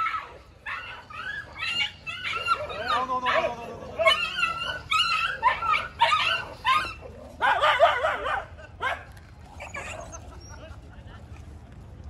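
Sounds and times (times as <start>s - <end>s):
dogs yelping and whining: 0.0s - 10.8s.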